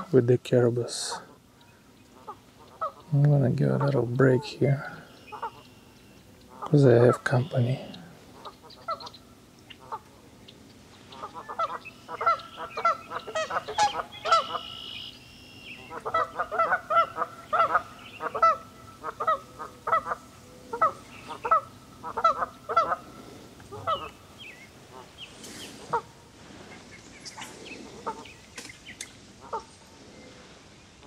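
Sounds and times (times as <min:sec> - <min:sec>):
geese honking: 0:00.0 - 0:30.0.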